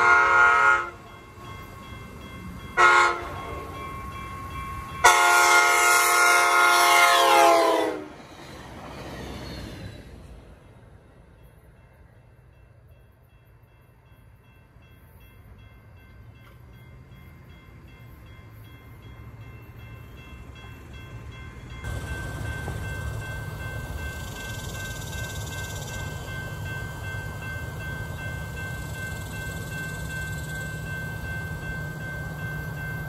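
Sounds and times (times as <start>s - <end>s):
train rumbling on tracks: 0.0s - 33.0s.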